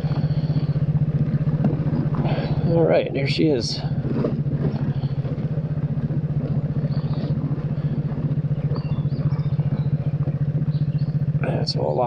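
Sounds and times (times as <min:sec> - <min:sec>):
scooter engine running at low speed: 0:00.0 - 0:12.0.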